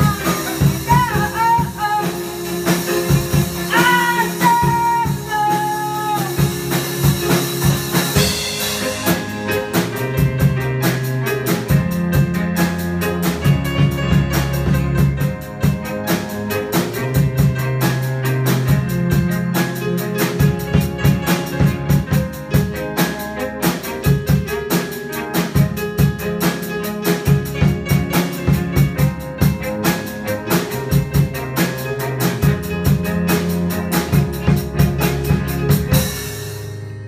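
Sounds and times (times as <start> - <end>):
drum kit driving beat: 0.0 - 37.0
live rock band playing: 0.0 - 37.0.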